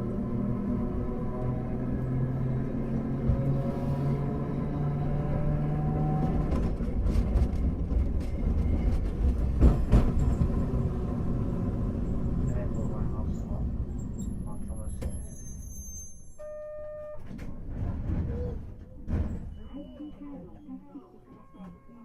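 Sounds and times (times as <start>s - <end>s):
tram wheels rumbling on rails: 0.0s - 15.7s, 17.2s - 19.7s
tram steady hum: 0.0s - 22.0s.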